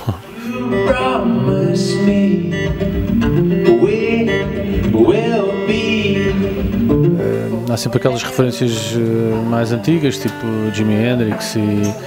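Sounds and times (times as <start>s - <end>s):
acoustic guitar: 0.0s - 12.0s
person singing: 0.0s - 12.0s.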